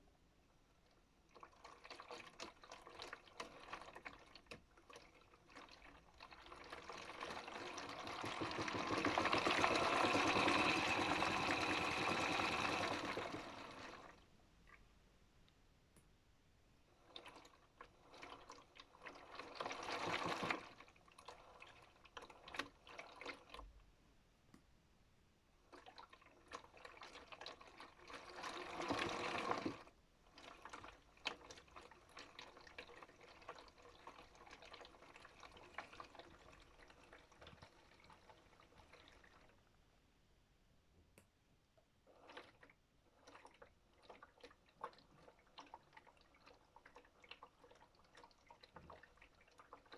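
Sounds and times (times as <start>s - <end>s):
water sloshing in toy washer: 0.9s - 14.2s, 16.9s - 23.7s, 25.6s - 39.7s, 42.1s - 49.9s.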